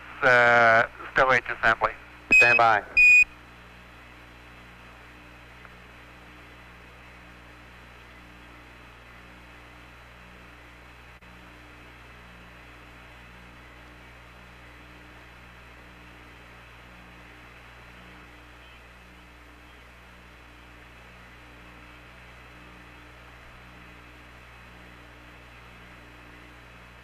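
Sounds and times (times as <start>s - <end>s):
radio hiss and hum: 0.0s - 27.0s.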